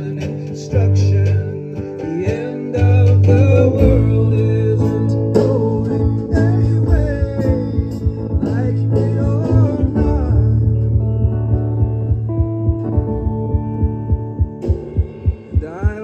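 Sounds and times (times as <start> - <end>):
acoustic guitar strumming: 0.0 - 16.0
bass notes: 0.0 - 16.0.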